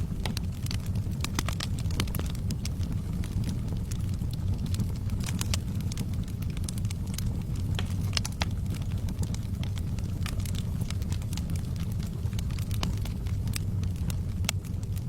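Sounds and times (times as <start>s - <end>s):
fire burning low rumble: 0.0s - 15.0s
fire crackles and pops: 0.0s - 15.0s.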